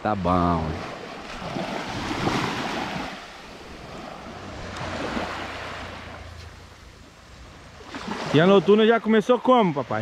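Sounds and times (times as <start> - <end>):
sea waves washing ashore: 0.0 - 10.0.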